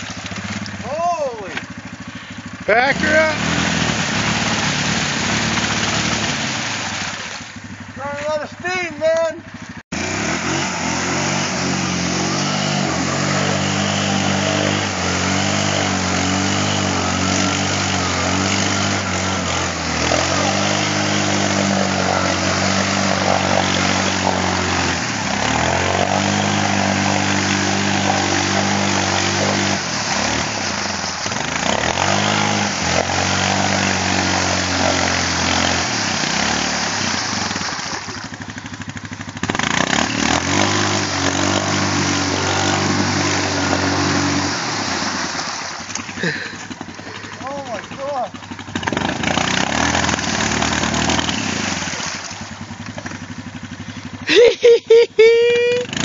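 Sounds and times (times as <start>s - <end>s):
tyres churning in mud: 0.0s - 54.9s, 55.5s - 56.0s
quad engine under load: 0.0s - 56.0s.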